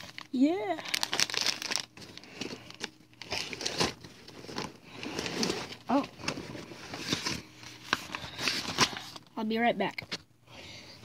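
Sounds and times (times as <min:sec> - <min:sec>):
plastic wrapper crinkling: 0:00.0 - 0:09.3.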